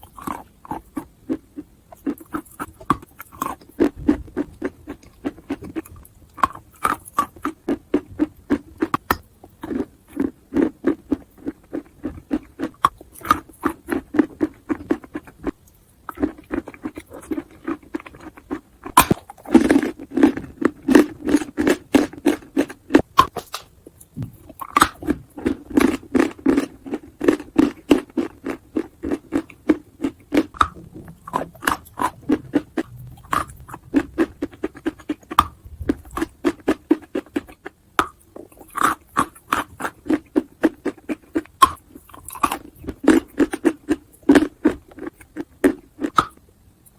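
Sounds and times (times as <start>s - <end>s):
person chewing chalk: 0.0s - 46.9s.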